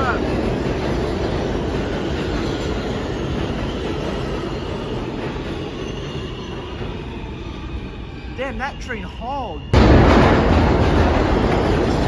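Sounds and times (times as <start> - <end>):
subway train rumbling and rattling: 0.0 - 12.0.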